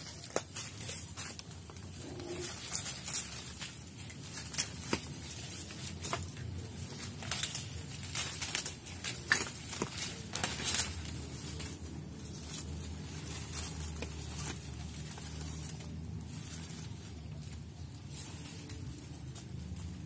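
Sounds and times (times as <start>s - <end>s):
branches clicking and snapping: 0.0s - 20.0s
leaves and branches rustling: 0.0s - 20.0s.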